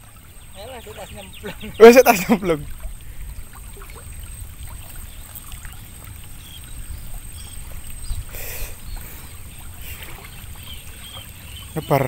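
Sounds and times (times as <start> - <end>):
wind rumbling on microphone: 0.0 - 11.9.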